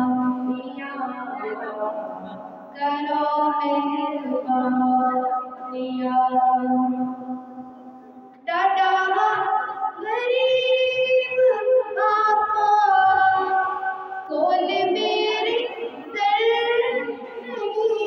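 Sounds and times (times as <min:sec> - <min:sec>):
woman singing devotional song: 0:00.0 - 0:07.3, 0:08.5 - 0:18.0.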